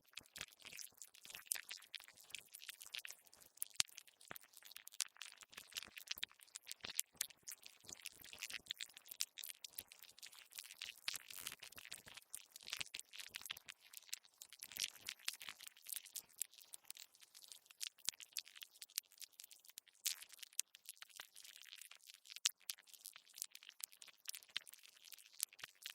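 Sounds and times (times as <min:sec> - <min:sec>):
insects crackling and clicking: 0:00.1 - 0:25.9.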